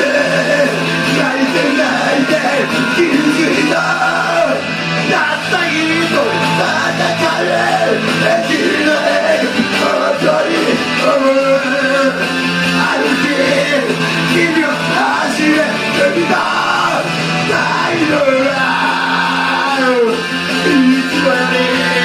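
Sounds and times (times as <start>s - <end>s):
person singing: 0.0s - 22.0s
rock song: 0.0s - 22.0s.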